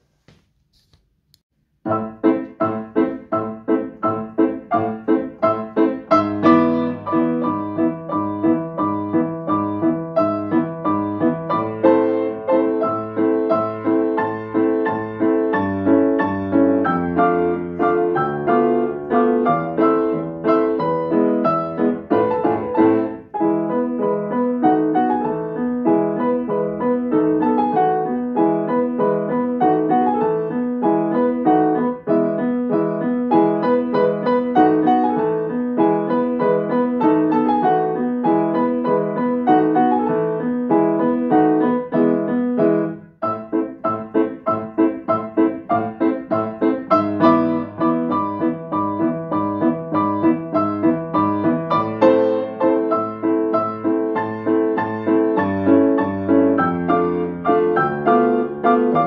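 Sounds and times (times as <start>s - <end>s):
grand piano piece: 1.6s - 59.0s.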